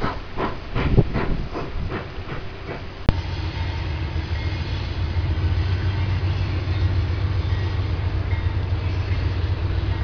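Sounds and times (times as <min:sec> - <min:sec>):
diesel locomotive engine drone: 0:00.0 - 0:10.0
rail and wheel noise: 0:00.0 - 0:10.0.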